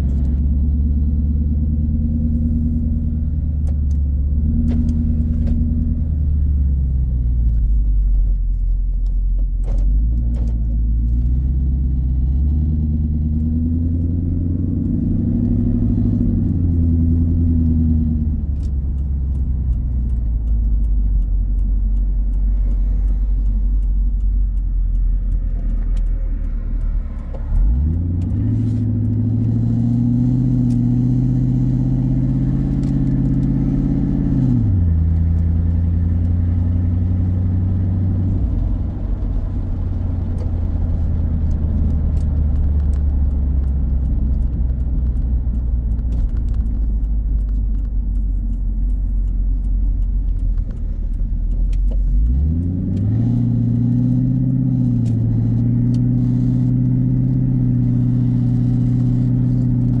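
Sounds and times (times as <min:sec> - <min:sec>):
car engine drone and idle: 0:00.0 - 1:00.0.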